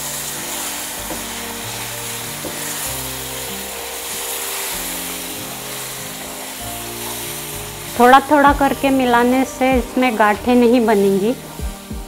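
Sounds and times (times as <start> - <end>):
background music: 0.0 - 12.0
milk sizzling in a pan: 0.0 - 12.0.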